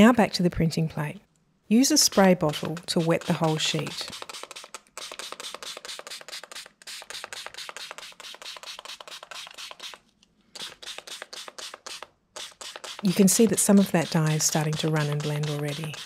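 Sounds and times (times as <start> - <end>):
spray bottle squirting water: 2.0 - 10.0, 10.6 - 16.0.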